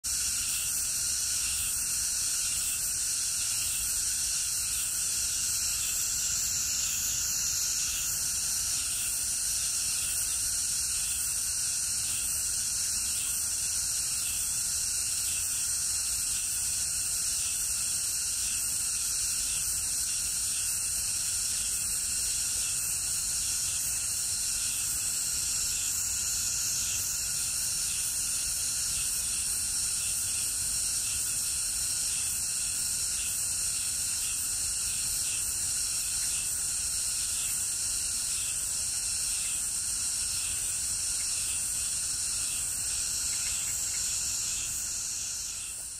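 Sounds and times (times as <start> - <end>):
insect chorus buzzing: 0.0 - 45.9.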